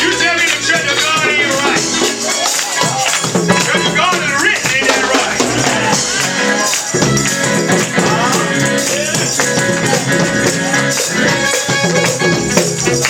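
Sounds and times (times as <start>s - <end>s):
live gospel band music: 0.0s - 13.0s
tambourine shaking: 0.0s - 13.0s.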